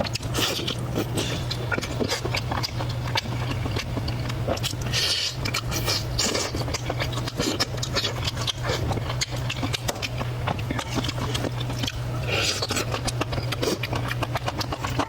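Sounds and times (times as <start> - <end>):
chewing and mouth smacks: 0.0 - 15.0
steady low hum: 0.0 - 15.0.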